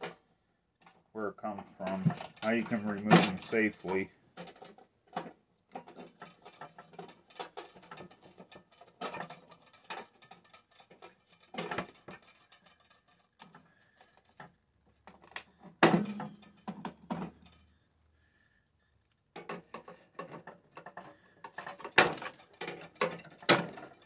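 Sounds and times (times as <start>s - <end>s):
tools and metal parts clicking: 1.8s - 17.7s, 19.4s - 24.0s.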